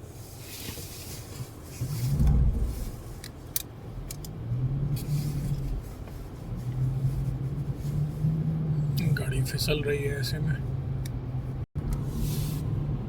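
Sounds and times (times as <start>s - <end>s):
car rumble on snowy road: 0.1s - 13.0s.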